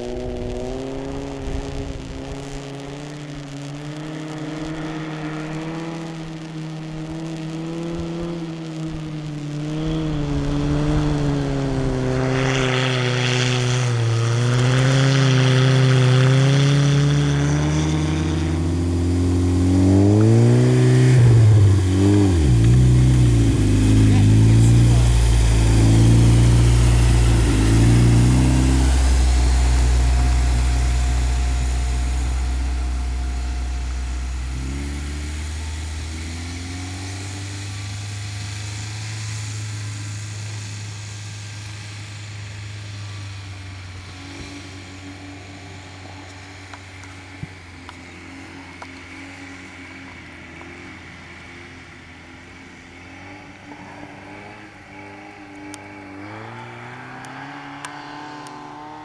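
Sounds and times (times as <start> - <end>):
vehicle engine under load: 0.0 - 59.0.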